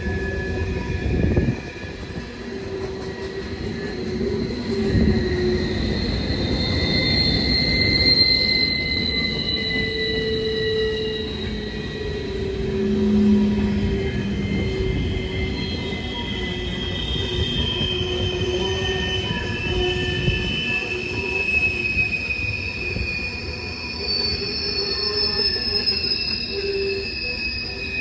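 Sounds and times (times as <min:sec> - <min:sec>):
train cars rolling past: 0:00.0 - 0:28.0
wheels squealing against rail: 0:00.0 - 0:28.0.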